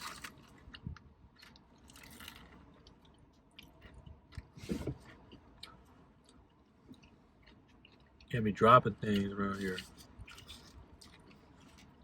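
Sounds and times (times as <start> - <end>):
person chewing and biting food: 0.0 - 8.3, 9.1 - 12.0.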